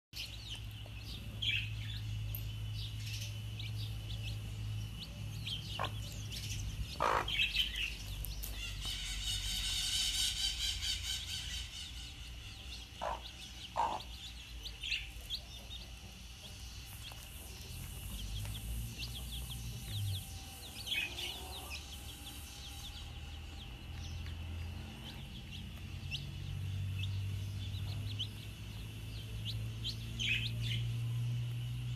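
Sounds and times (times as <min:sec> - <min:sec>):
chicks peeping: 0:00.2 - 0:31.9.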